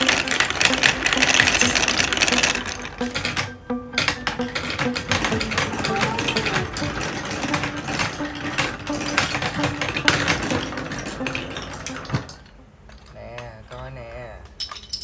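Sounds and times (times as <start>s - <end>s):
marbles clattering down a marble run: 0.0s - 12.4s.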